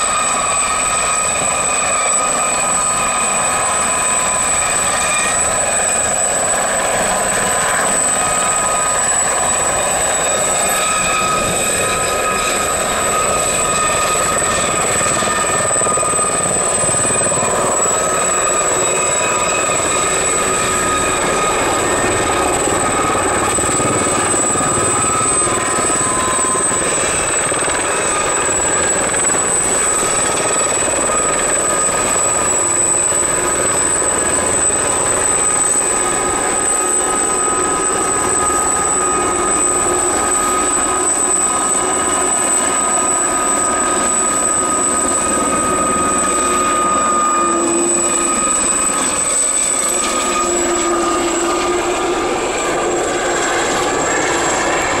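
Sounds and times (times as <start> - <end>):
helicopters flying overhead: 0.0 - 55.0.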